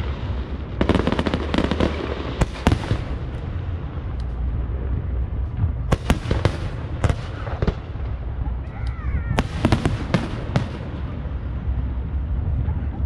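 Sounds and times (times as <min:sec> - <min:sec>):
continuous low rumble: 0:00.0 - 0:13.0.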